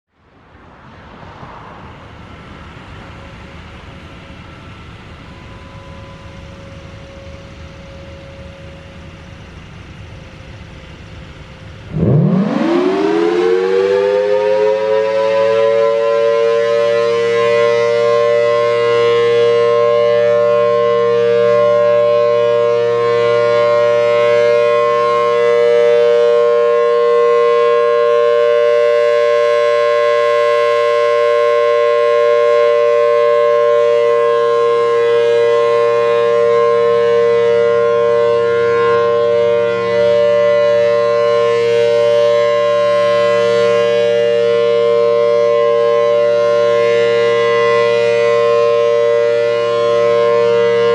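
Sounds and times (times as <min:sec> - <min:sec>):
civil defense siren wailing: 0:00.2 - 0:50.9.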